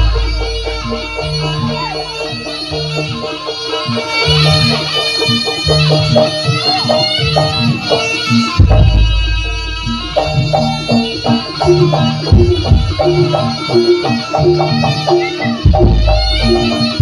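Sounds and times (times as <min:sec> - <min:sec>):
drum strokes: 0:00.0 - 0:17.0
quick repeating pitched notes: 0:00.0 - 0:17.0.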